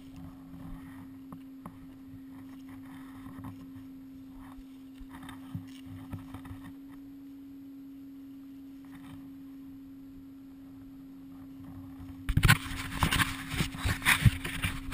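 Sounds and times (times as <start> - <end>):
snowmobile engine hum: 0.0 - 14.9.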